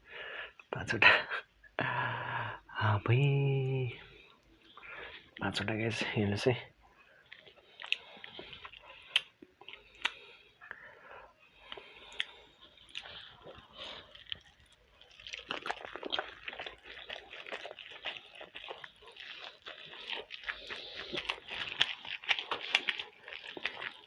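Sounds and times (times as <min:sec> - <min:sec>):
person chewing wetly: 0:03.2 - 0:06.0, 0:06.7 - 0:24.0.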